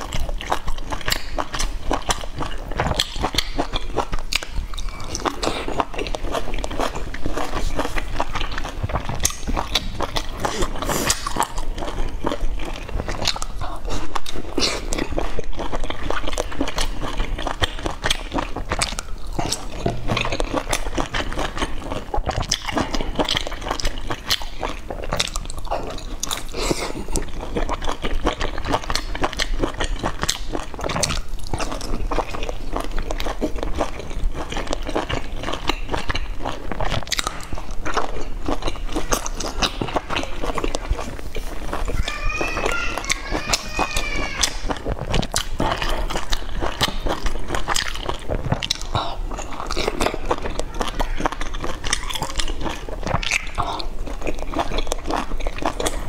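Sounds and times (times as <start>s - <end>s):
person chewing dumplings: 0.0s - 56.0s.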